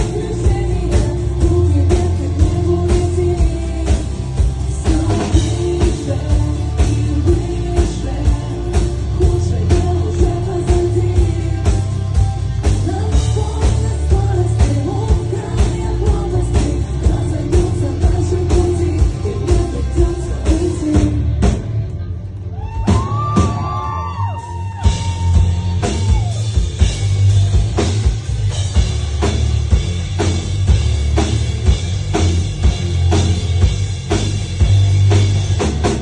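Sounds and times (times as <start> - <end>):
steady drum beat: 0.0 - 21.8, 22.8 - 36.0
bass: 0.0 - 36.0
guitar: 0.0 - 36.0.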